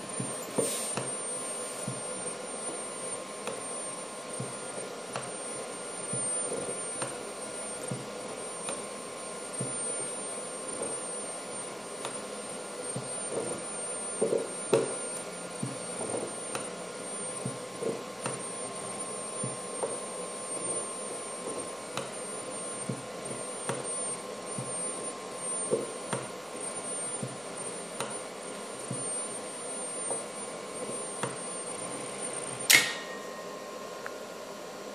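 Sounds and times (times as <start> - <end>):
robot arm whirring hum: 0.0 - 33.0.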